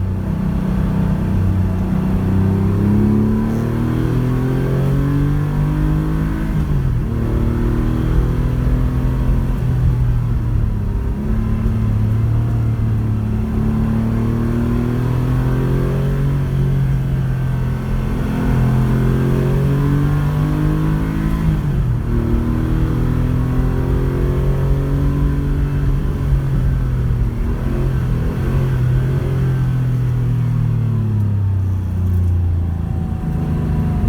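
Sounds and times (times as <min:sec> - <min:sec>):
rally car engine under load: 0:00.0 - 0:34.0.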